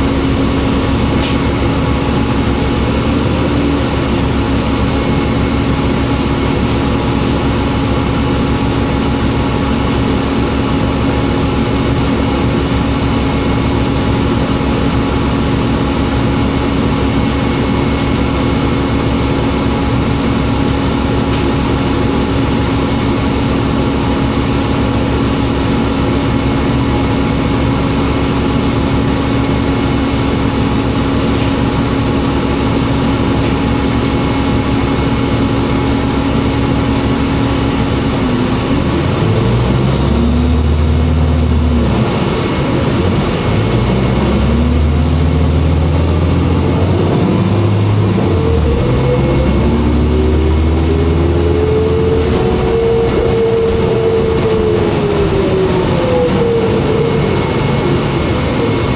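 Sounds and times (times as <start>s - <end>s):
bus diesel engine idling: 0.0s - 58.9s.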